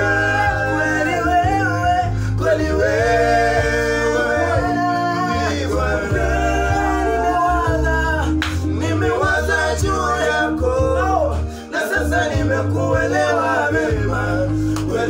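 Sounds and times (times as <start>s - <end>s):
instrumental backing with bass: 0.0s - 15.0s
men singing gospel song: 0.0s - 15.0s.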